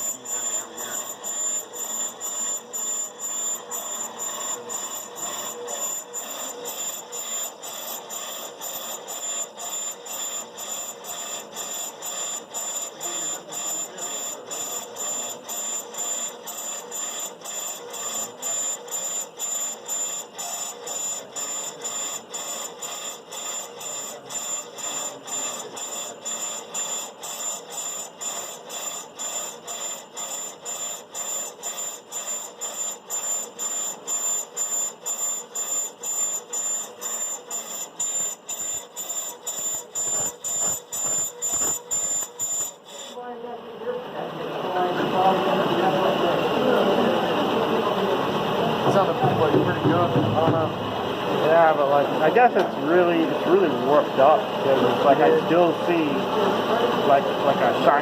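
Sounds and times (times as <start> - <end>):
brake lathe cutting whine: 0.0 - 43.3, 44.0 - 58.0.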